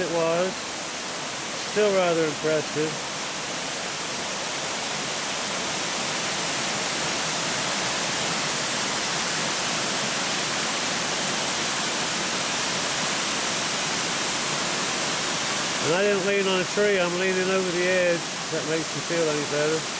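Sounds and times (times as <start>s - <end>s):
waterfall pouring over rock: 0.0s - 19.9s.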